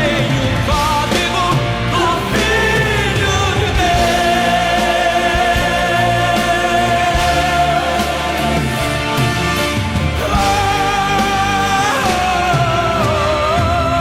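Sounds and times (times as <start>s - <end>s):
song with singing over band: 0.0s - 14.0s.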